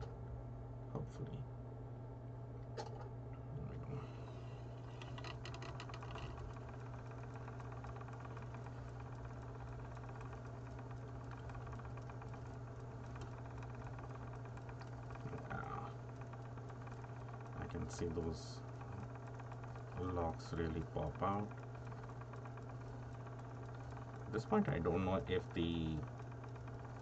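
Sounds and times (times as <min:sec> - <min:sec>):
electric spinning wheel running: 0:03.7 - 0:27.0.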